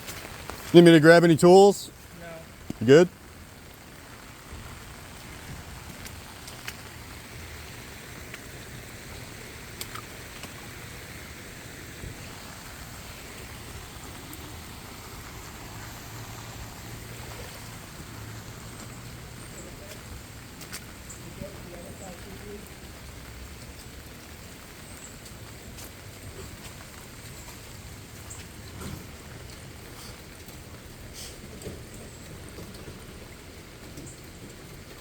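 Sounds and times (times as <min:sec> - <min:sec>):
floodwater running: 0:00.0 - 0:35.0
steady rain falling: 0:00.0 - 0:35.0
faint drip-like ticks: 0:01.9 - 0:11.2, 0:13.1 - 0:15.9, 0:17.0 - 0:35.0.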